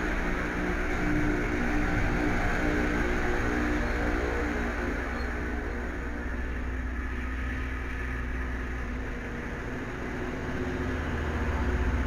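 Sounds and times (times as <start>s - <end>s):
diesel train engines rumbling: 0.0s - 12.0s.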